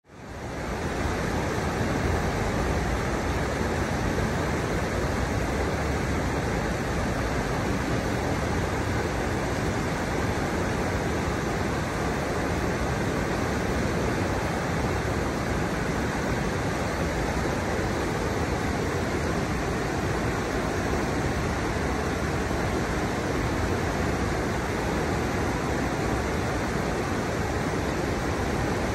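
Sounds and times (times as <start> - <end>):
river water rushing: 0.1 - 28.9.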